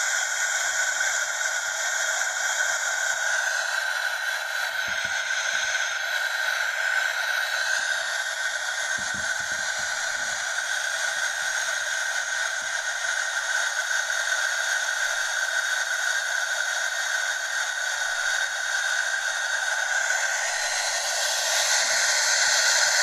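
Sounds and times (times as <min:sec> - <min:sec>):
car wash hissing: 0:00.9 - 0:14.2, 0:14.8 - 0:23.0.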